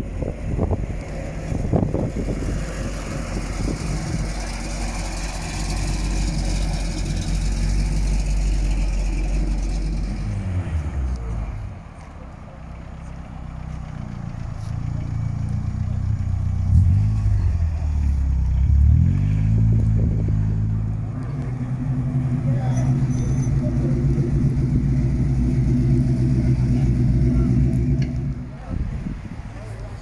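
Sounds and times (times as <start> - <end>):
car engines rumbling: 0.0 - 30.0.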